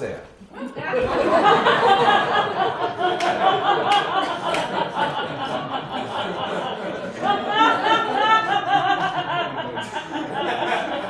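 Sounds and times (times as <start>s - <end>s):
group of people laughing: 0.6s - 11.0s.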